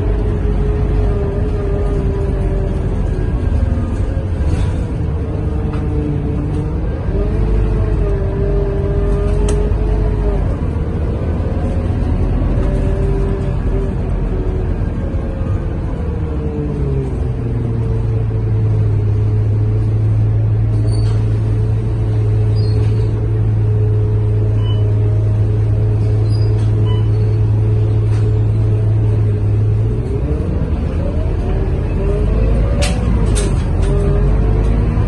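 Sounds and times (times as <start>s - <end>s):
bus diesel engine droning: 0.0s - 35.0s.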